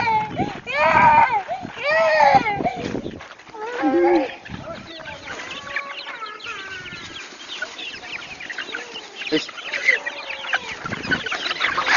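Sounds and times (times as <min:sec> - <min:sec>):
chickens clucking and squawking: 0:00.0 - 0:11.9.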